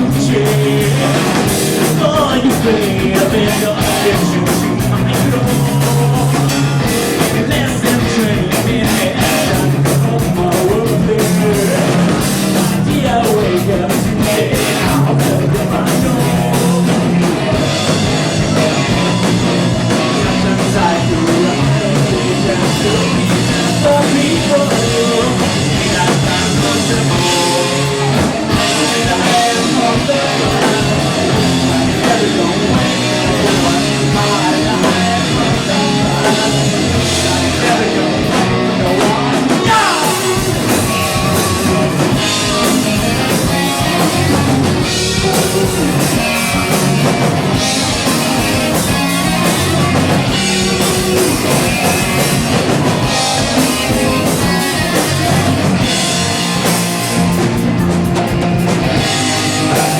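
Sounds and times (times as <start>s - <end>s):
drum kit: 0.0s - 59.9s
electric guitar: 0.0s - 59.9s
rock band playing live: 0.0s - 59.9s.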